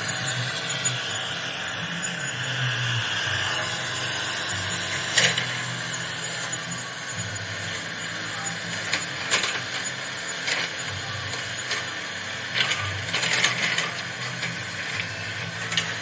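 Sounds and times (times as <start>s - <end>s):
toy motors and gears whirring: 0.0s - 16.0s.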